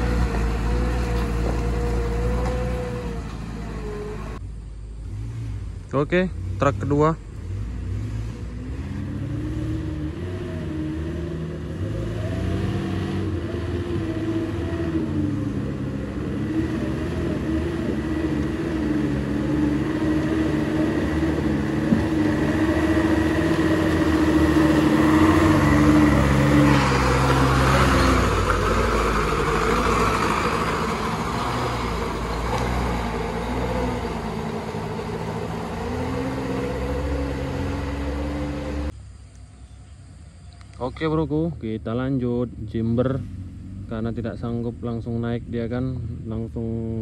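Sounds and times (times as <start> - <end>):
truck engine labouring uphill: 0.0 - 39.0.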